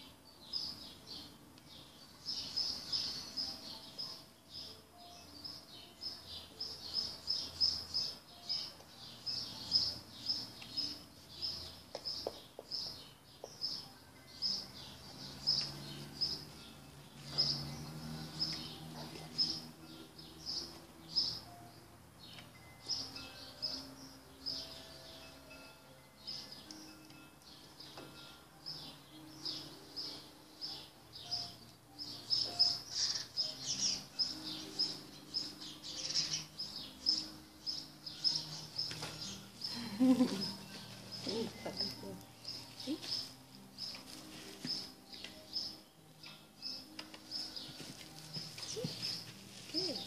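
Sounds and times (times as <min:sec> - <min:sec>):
bird chirping: 0:00.0 - 0:50.0.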